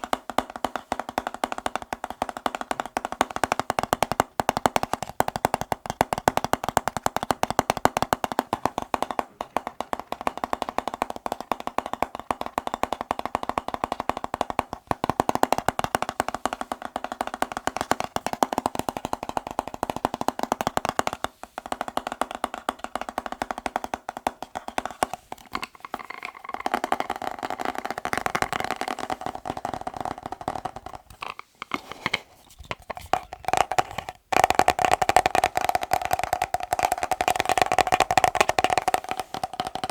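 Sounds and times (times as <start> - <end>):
rapid tapping on hard objects: 0.0 - 39.9.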